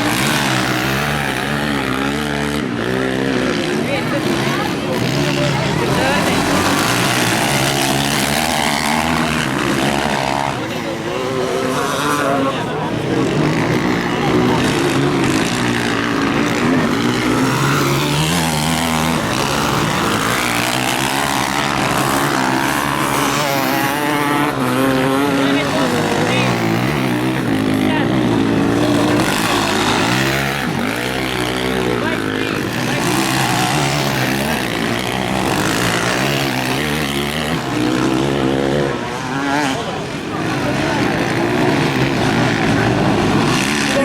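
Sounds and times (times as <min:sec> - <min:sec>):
motocross engines revving: 0:00.0 - 0:44.0.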